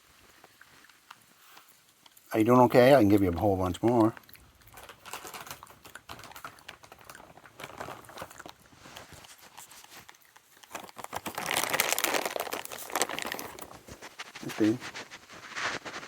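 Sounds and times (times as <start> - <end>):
peanut shells rustling and crackling: 0.0 - 16.0.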